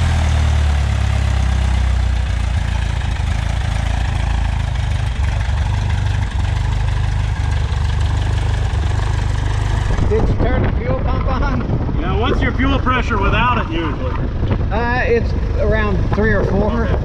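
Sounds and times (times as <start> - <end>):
light aircraft engine and propeller: 0.0 - 17.0.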